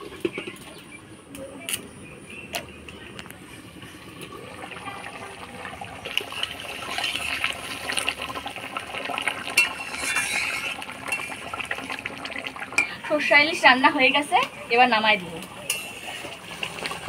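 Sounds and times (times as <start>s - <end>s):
gravy bubbling in a pan: 3.3s - 17.0s.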